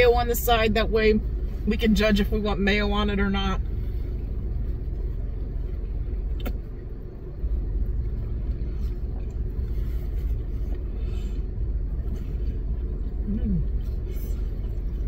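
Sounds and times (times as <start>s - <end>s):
car idling inside cabin: 0.0s - 15.0s
faint steady hum: 0.0s - 15.0s.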